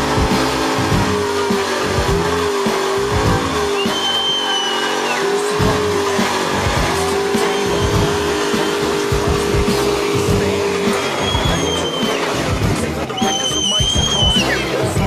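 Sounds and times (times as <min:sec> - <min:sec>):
car engine at high revs: 0:00.0 - 0:15.0
high tire squeal: 0:00.0 - 0:15.0
tires spinning on pavement: 0:00.0 - 0:15.0.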